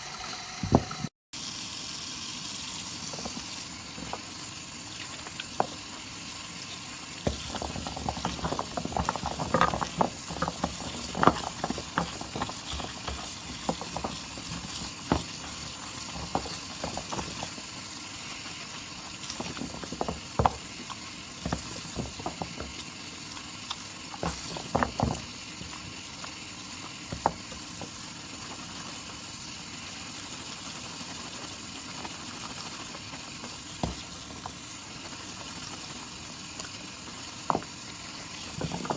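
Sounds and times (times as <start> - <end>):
soap lather squelching and popping: 2.6 - 38.9.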